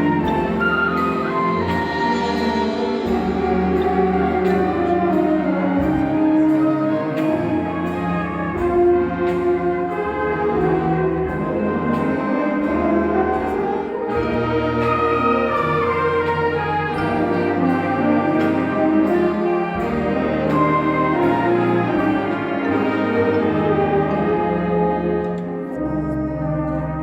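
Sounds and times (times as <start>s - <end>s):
sustained low bass notes: 0.0s - 27.0s
symphonic band playing: 0.0s - 27.0s.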